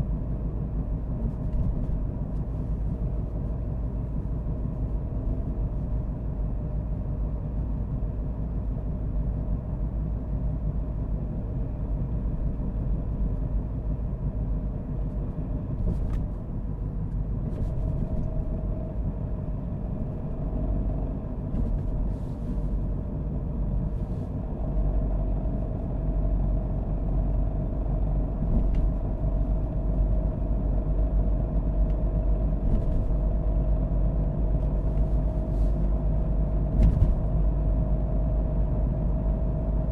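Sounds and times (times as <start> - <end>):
low rumble of tyres and engine: 0.0 - 39.9.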